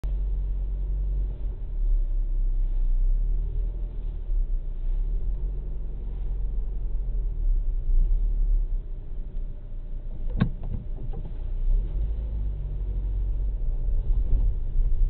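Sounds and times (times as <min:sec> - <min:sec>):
car engine and cabin rumble: 0:00.0 - 0:15.0.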